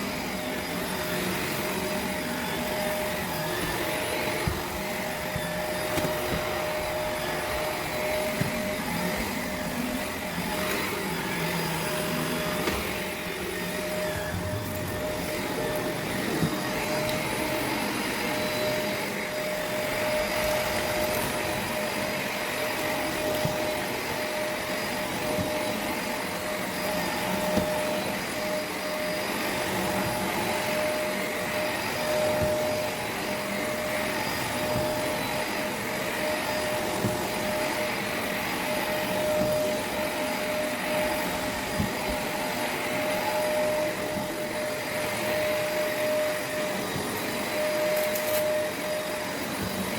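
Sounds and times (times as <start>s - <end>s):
vacuum cleaner whining: 0.0s - 49.9s.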